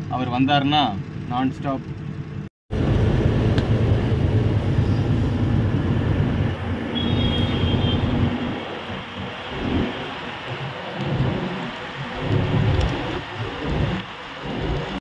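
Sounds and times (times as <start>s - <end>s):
lorry engine and road rumble: 0.0s - 15.0s.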